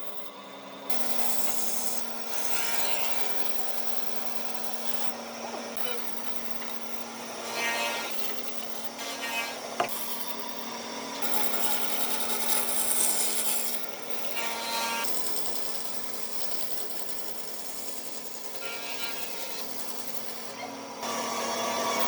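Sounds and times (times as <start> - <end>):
power tool working wood: 0.3 - 22.0.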